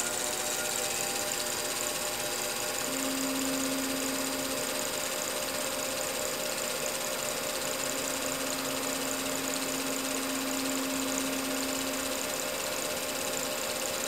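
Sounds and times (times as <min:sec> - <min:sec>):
cnc mill cutting with hum and hiss: 0:00.0 - 0:14.0.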